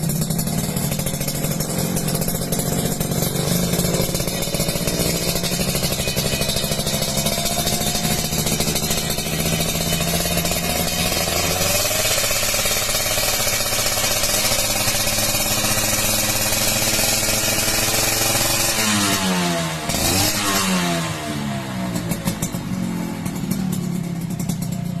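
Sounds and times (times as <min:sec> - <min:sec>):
two-stroke motorcycle engine: 0:00.0 - 0:25.0.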